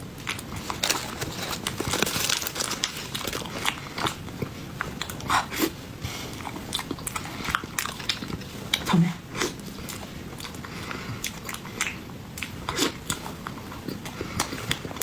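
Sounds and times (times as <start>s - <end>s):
close chewing with mouth clicks: 0.1s - 15.0s.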